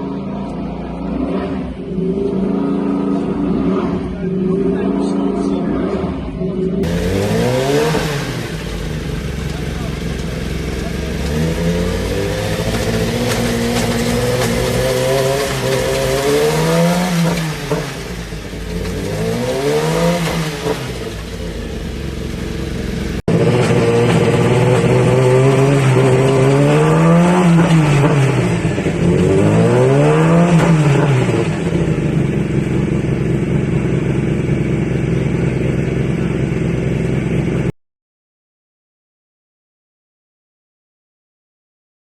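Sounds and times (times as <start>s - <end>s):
racing motorcycle engine revving: 0.0s - 37.7s.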